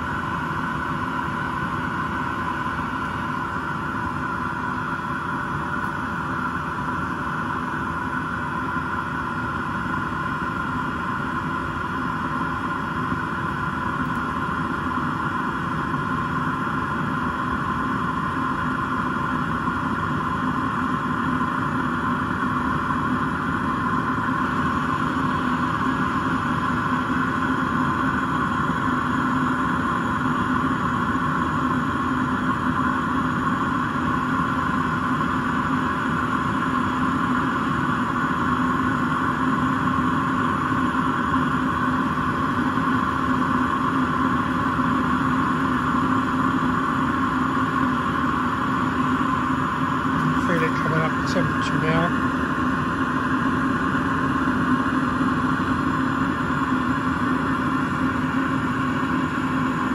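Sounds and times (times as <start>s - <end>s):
heater fan hum with tones: 0.0s - 59.9s.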